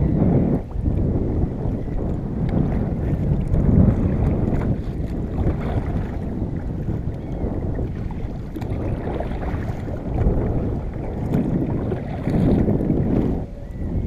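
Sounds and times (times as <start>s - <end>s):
water sloshing against kayak: 0.0s - 14.0s
wind buffeting microphone: 0.0s - 14.0s.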